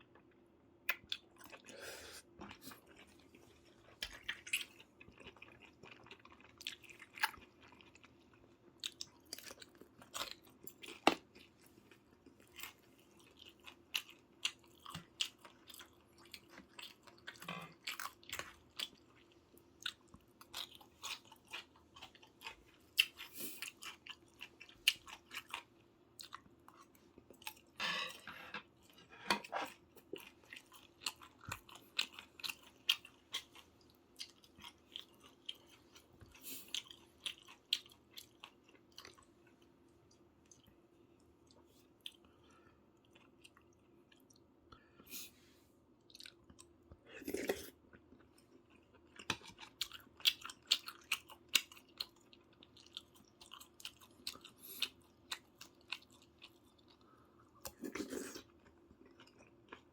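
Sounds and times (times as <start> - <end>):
chewing and eating: 0.0 - 45.3, 46.0 - 59.9.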